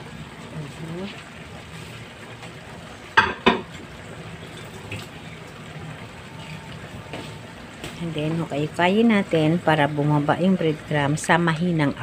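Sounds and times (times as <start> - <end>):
sauce simmering in a pan: 0.0 - 11.8.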